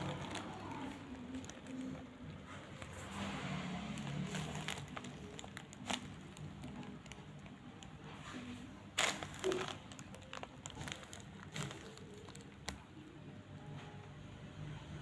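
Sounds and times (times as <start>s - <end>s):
packaging rustling and crinkling: 0.0s - 13.2s.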